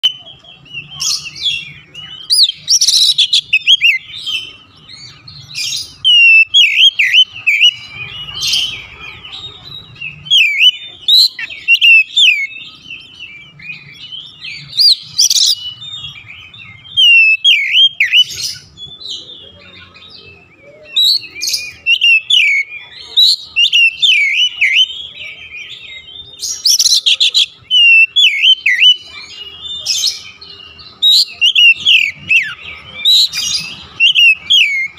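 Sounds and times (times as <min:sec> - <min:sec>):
bird singing whistled phrases: 0:00.0 - 0:34.9.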